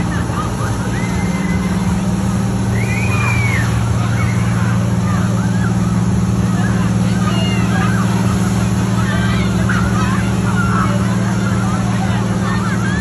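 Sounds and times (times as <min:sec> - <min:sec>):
fire engine pump droning: 0:00.0 - 0:13.0
hose spraying water: 0:00.0 - 0:13.0.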